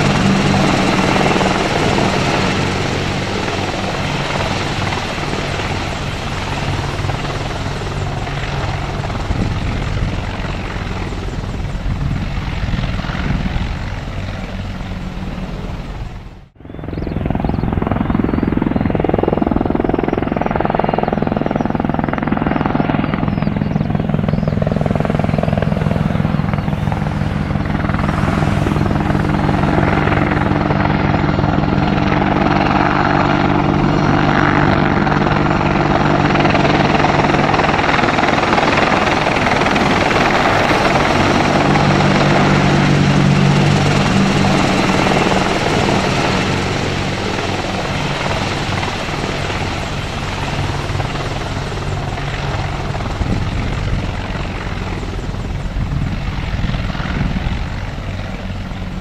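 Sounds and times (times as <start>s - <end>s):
helicopter rotor chop: 0.0s - 59.0s.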